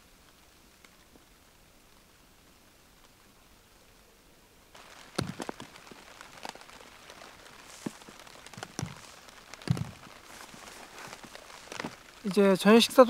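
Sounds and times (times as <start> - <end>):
raindrops tapping close by: 0.0 - 3.6, 4.7 - 13.0
rain hissing: 0.0 - 13.0.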